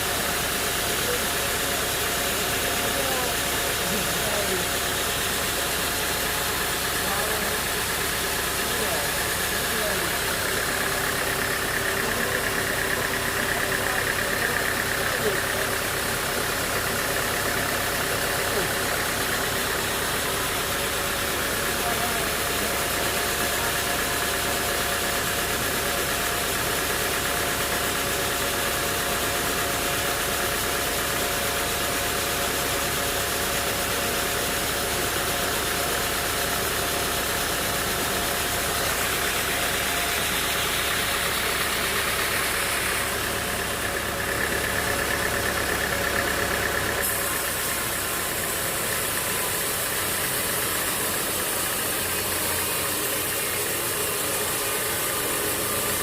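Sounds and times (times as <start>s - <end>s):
engine-driven saw whining: 0.0s - 56.0s.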